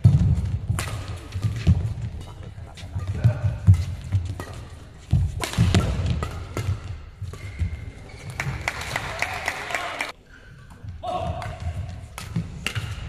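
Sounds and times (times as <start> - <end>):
racket hitting shuttlecock: 0.0 - 8.7, 10.7 - 13.0.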